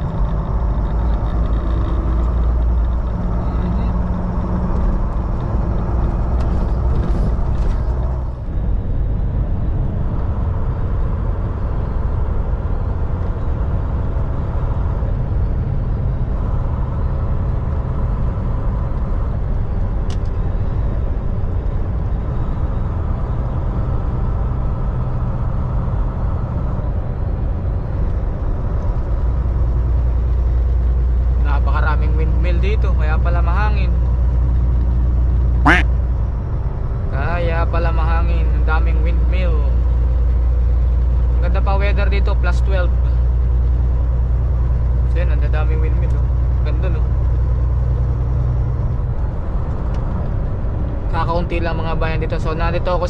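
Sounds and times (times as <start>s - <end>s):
truck diesel engine drone: 0.0s - 51.3s
road noise: 0.0s - 53.0s.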